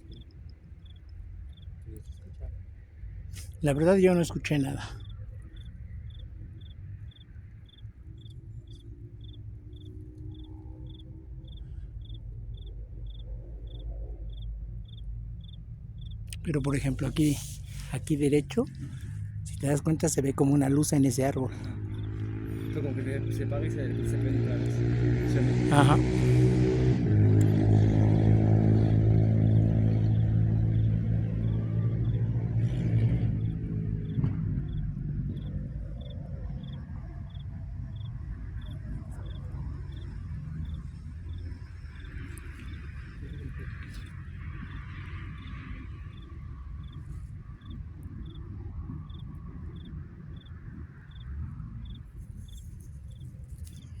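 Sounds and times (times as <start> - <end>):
constant low rumble: 0.0 - 54.0
cricket chirping: 0.0 - 54.0
vehicle engine running: 0.0 - 54.0.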